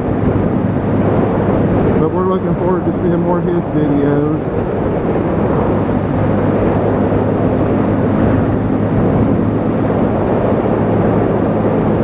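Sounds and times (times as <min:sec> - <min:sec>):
motorcycle engine cruising: 0:00.0 - 0:12.0
wind rushing on helmet microphone: 0:00.0 - 0:12.0.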